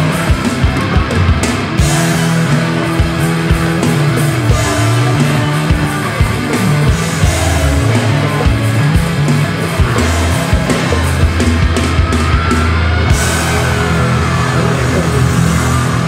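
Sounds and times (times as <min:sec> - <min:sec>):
bass line: 0:00.0 - 0:16.0
drum kit beat: 0:00.0 - 0:16.0
rock band playing: 0:00.0 - 0:16.0.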